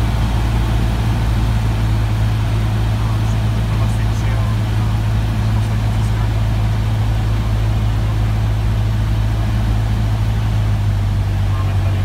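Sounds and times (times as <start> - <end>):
small plane engine droning: 0.0 - 12.0.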